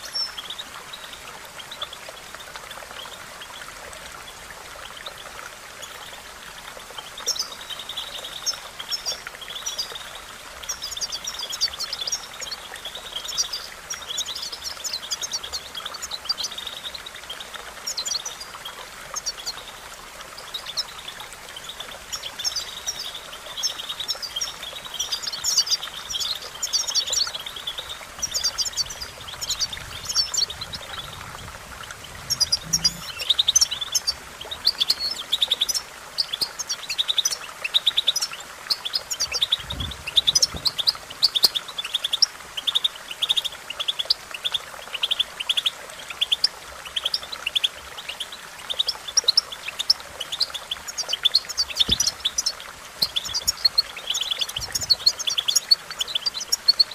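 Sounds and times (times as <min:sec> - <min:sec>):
goldfinch twittering: 0:06.8 - 0:56.9.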